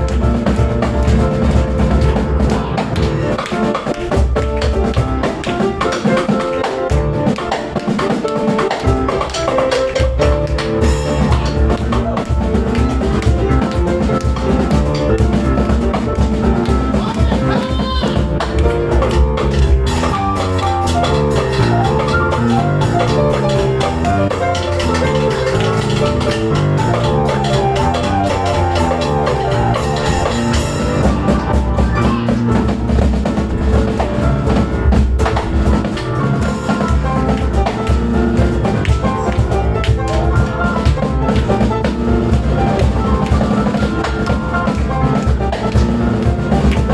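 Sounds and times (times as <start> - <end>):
drum kit and cajon drumming: 0.0 - 46.9
piano playing fast runs: 0.0 - 46.9.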